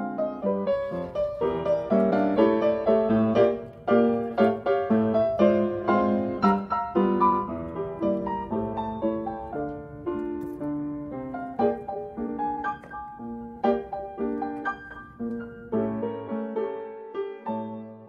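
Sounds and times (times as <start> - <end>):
ragtime piano: 0.0 - 18.0.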